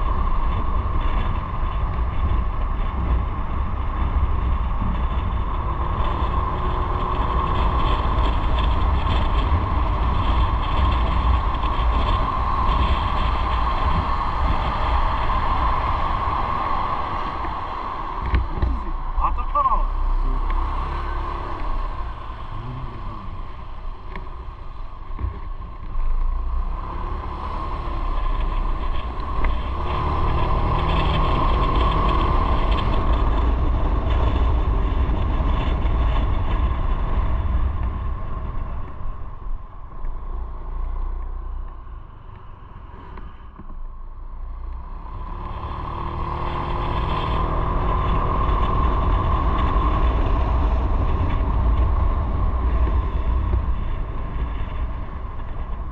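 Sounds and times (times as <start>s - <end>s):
motorcycle engine: 0.0s - 43.7s, 44.4s - 55.9s
road noise: 0.0s - 55.9s
wind rushing over microphone: 0.0s - 55.9s.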